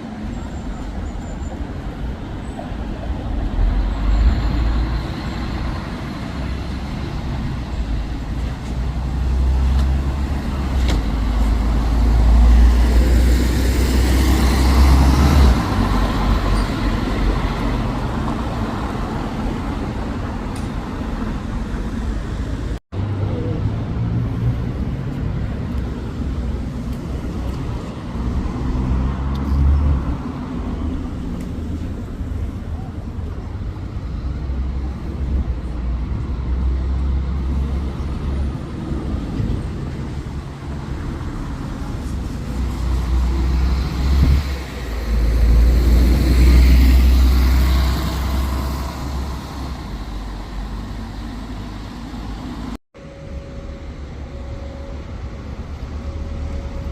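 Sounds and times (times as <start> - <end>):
bus engine droning: 0.0 - 56.9
road traffic: 0.0 - 56.9.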